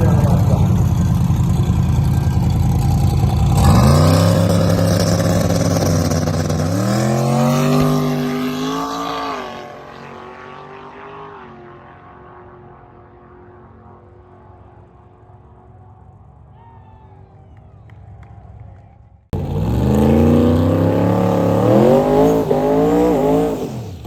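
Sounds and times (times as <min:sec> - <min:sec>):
drag car accelerating hard: 0:00.0 - 0:16.2, 0:19.4 - 0:24.0.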